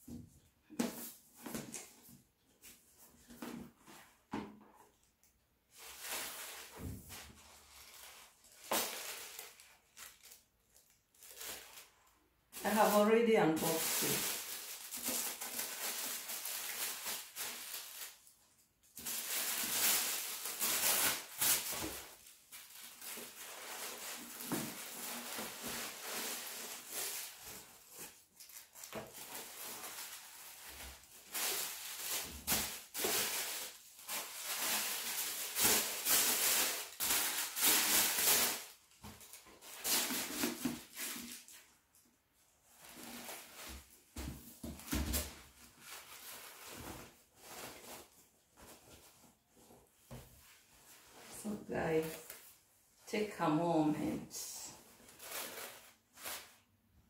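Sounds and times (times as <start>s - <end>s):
tissue paper rustling: 5.7s - 41.7s, 42.4s - 52.7s, 54.8s - 56.7s.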